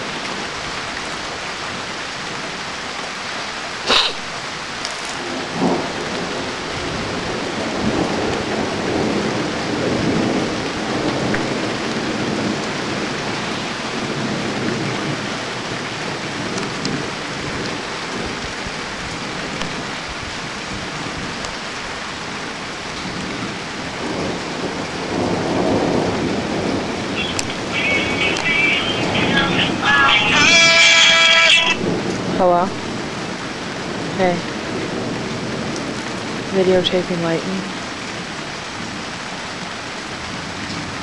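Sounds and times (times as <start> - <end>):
steady rain falling: 0.0 - 41.0
thunder rumbling: 5.2 - 21.4, 22.9 - 41.0.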